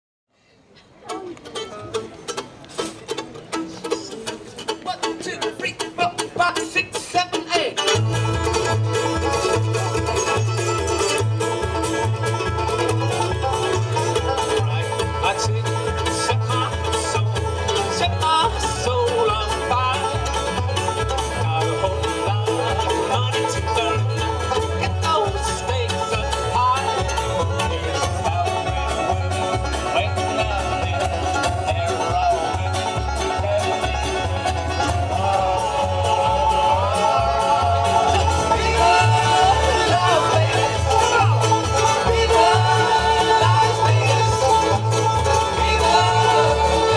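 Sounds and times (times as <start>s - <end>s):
fiddle: 0.4s - 46.9s
mandolin: 0.4s - 46.9s
banjo: 0.6s - 46.9s
acoustic guitar: 0.7s - 46.9s
upright bass pulse: 7.9s - 46.9s.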